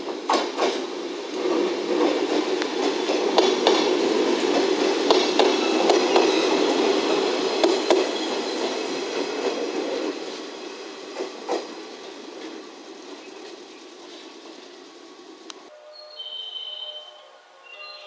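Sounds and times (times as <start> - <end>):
train wheels on rails: 0.0 - 15.7.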